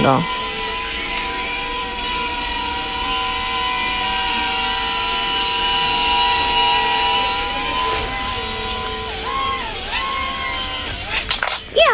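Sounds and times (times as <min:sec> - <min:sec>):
toy drone buzzing whine: 0:00.0 - 0:11.9.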